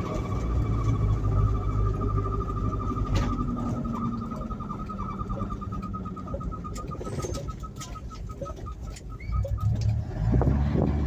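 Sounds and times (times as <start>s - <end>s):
rhythmic chirping squeak from drivetrain: 0.0s - 10.2s
low road and engine noise: 0.0s - 11.0s.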